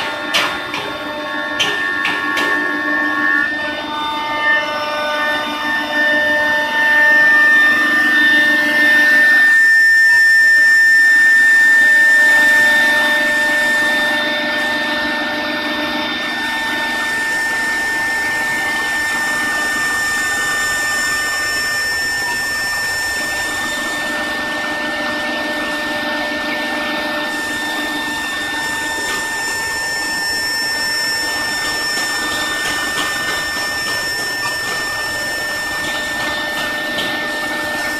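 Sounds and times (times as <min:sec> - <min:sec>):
router spindle motors whining: 0:00.0 - 0:37.9.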